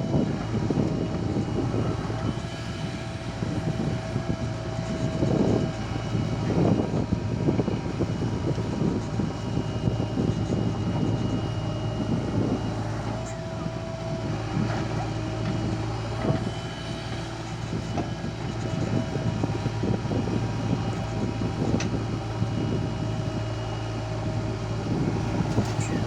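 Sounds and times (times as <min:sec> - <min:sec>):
constant high whine: 0:00.0 - 0:26.0
diesel engine running: 0:00.0 - 0:26.0.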